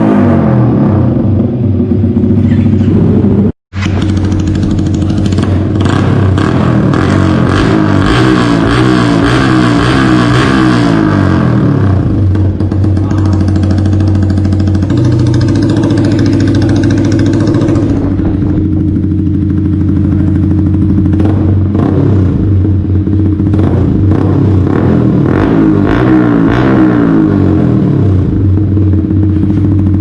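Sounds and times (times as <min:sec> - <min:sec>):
motorcycle engine idling: 0:00.7 - 0:08.2, 0:10.9 - 0:25.8, 0:27.0 - 0:30.0.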